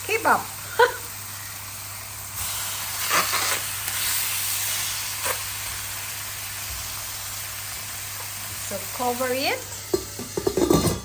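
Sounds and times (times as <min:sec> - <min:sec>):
chicken sizzling in a skillet: 0:00.0 - 0:11.0.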